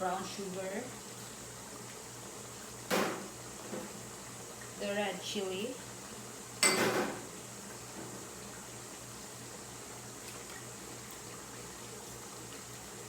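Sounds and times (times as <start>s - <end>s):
pot simmering with soft bubbling: 0.0s - 13.0s.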